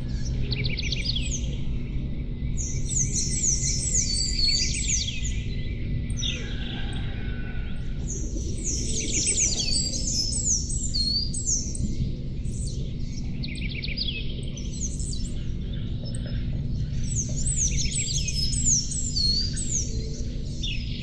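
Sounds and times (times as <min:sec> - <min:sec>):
songbirds chirping: 0:00.0 - 0:21.0
steady low rumble: 0:00.0 - 0:21.0.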